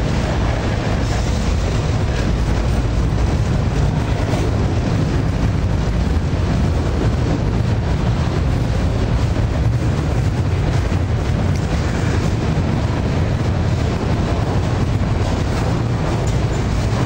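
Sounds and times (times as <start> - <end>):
freight train rumbling past: 0.0 - 17.0
wind buffeting microphone: 0.0 - 17.0.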